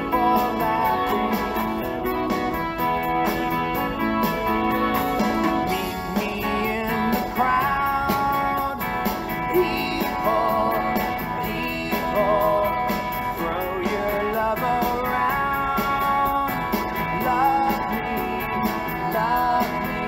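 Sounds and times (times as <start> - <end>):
guitar accompaniment: 0.0 - 20.0
person singing: 0.0 - 20.0.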